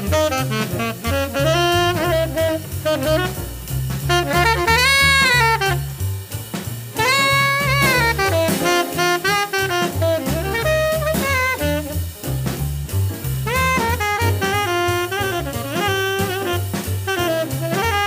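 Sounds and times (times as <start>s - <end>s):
horn solo: 0.0s - 6.3s, 6.9s - 12.4s, 13.4s - 18.0s
drums: 0.0s - 18.0s
walking double bass: 0.0s - 18.0s.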